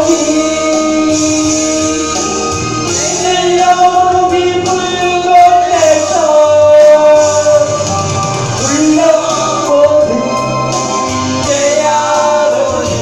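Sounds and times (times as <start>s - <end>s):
instrumental accompaniment: 0.0s - 13.0s
person singing: 0.0s - 13.0s.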